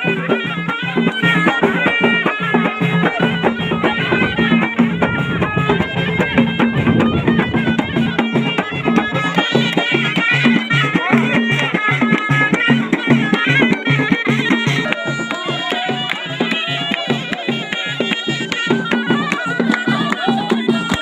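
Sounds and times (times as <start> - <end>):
shawm playing fast folk melody: 0.0 - 21.0
steady drum beat: 0.0 - 21.0.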